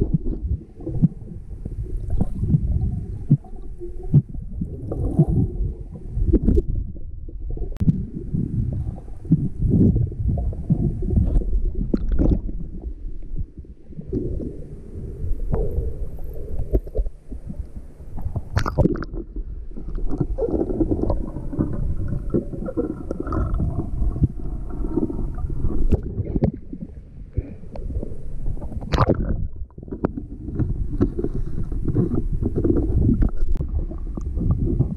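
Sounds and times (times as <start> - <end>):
underwater rumbling and gurgling: 0.0 - 34.9.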